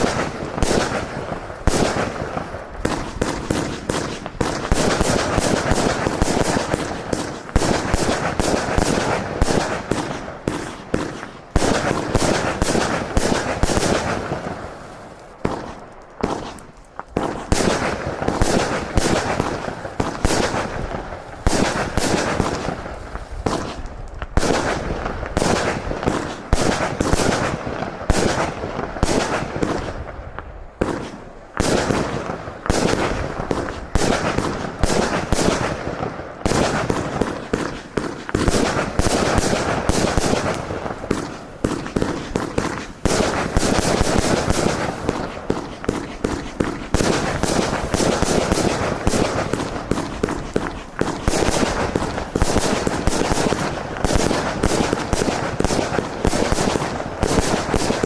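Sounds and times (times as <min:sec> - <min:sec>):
firework cake shots and bursts: 0:00.0 - 0:58.0.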